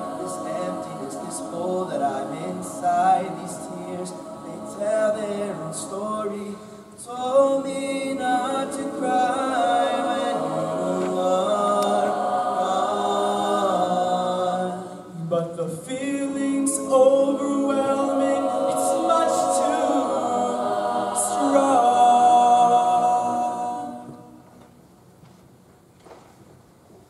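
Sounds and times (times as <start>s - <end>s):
a cappella choir singing: 0.0s - 24.6s.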